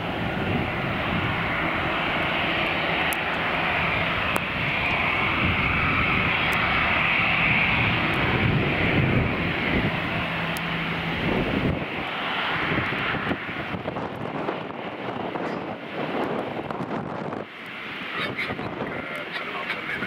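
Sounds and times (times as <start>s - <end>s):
jet engines rumbling and whining: 0.0s - 20.0s.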